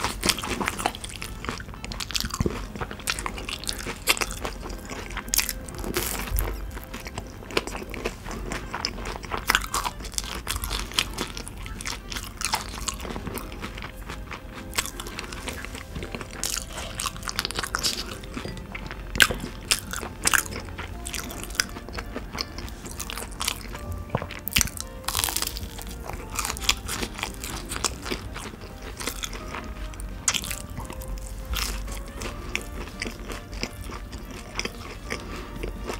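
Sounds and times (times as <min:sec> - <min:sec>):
crunching fried food: 0:00.0 - 0:35.9.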